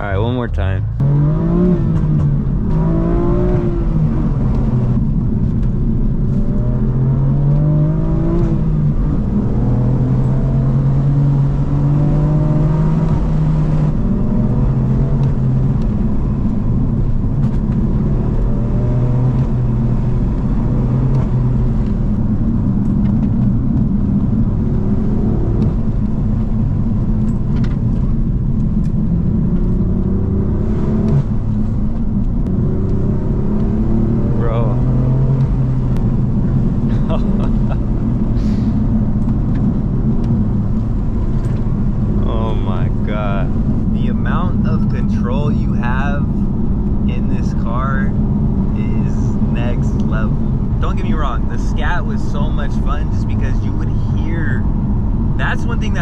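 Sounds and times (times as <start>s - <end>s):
car engine and exhaust accelerating: 0.0s - 56.0s.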